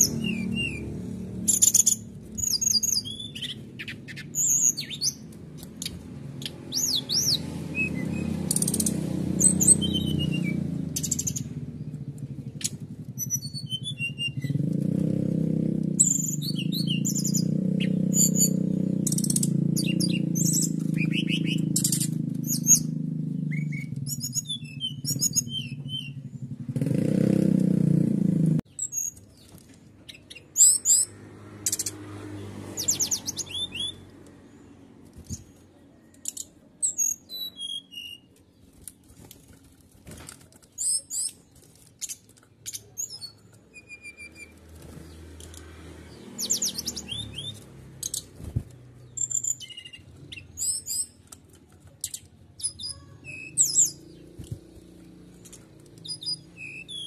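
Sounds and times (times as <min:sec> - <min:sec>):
canary singing: 0:00.0 - 0:27.3, 0:28.7 - 0:39.2, 0:40.6 - 0:57.0.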